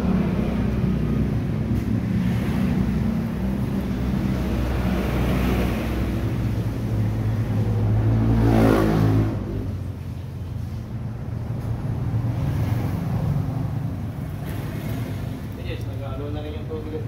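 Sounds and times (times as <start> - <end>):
vehicle engine running and revving: 0.0 - 15.7.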